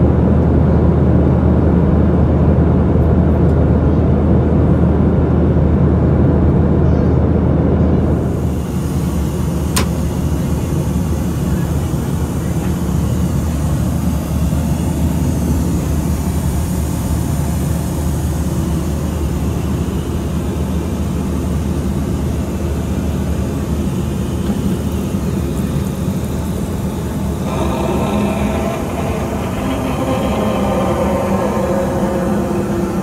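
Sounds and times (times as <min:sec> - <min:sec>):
airplane cabin drone: 0:00.0 - 0:33.0.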